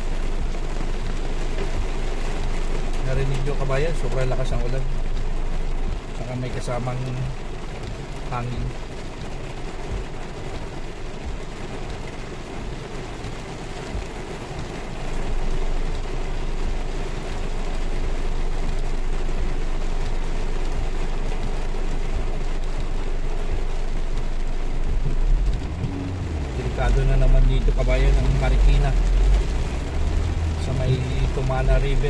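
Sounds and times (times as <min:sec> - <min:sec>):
heavy rain on car roof: 0:00.0 - 0:32.0.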